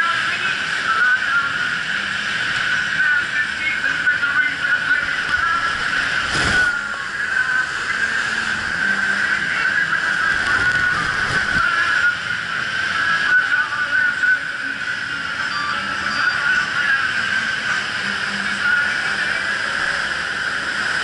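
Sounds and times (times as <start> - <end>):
mechanical whine: 0.0 - 21.0
wake water rushing: 0.0 - 21.0.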